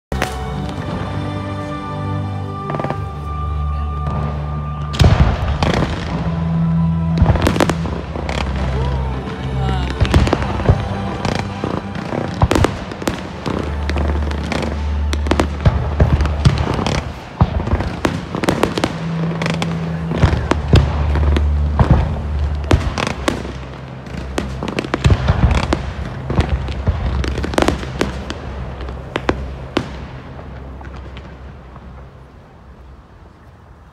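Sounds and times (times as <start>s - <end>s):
fireworks bangs and crackling: 0.1s - 33.0s.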